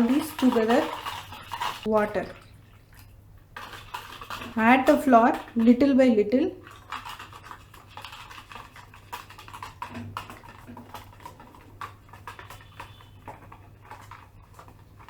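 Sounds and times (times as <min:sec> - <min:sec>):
whisk clicking against mixing bowl: 0:00.0 - 0:02.5, 0:03.5 - 0:15.0.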